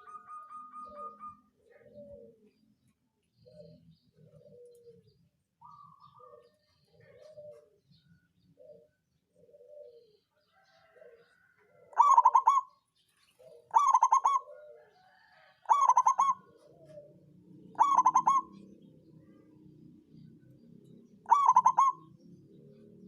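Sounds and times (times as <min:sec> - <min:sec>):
dove cooing with rattling notes: 0:00.0 - 0:23.0.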